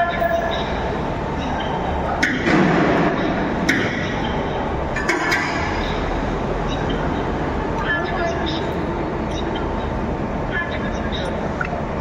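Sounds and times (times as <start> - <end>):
workshop background noise: 0.0 - 12.0.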